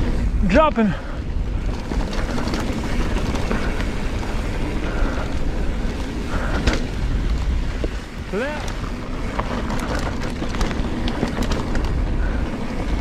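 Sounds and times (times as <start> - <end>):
bike clatter: 0.0 - 13.0
bike clicks and rattles: 0.0 - 13.0
bike tyres on packed dirt: 0.0 - 13.0
wind rushing over microphone: 0.0 - 13.0.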